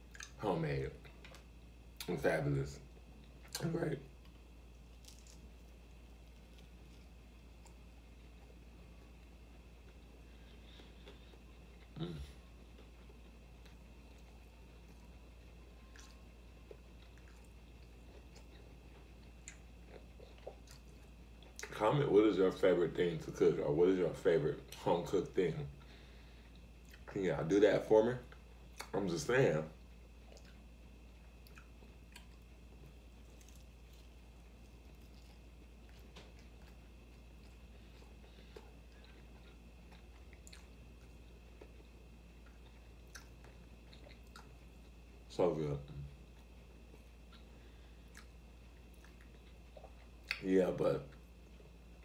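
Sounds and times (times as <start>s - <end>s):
faint chewing: 3.0s - 21.8s, 24.6s - 27.6s, 29.8s - 52.0s.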